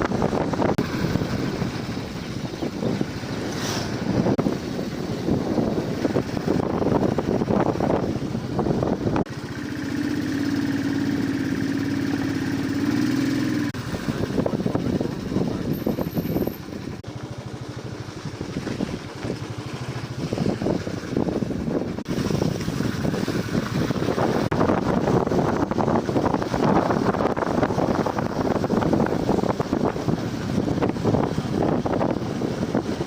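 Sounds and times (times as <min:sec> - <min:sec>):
wind buffeting microphone: 0:00.0 - 0:09.3, 0:10.0 - 0:17.1, 0:17.9 - 0:33.0
car road rumble: 0:00.0 - 0:33.0.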